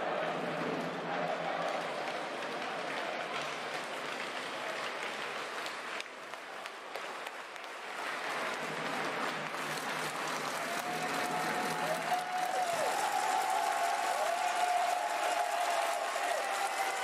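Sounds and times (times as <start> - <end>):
crowd clapping and cheering: 0.0 - 17.0.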